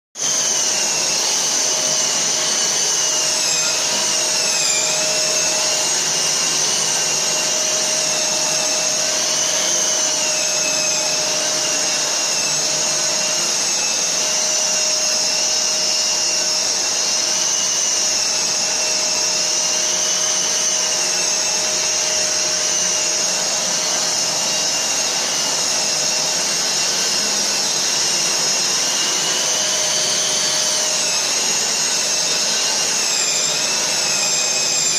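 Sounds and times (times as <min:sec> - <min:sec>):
sander and dust extractor running: 0:00.2 - 0:34.9.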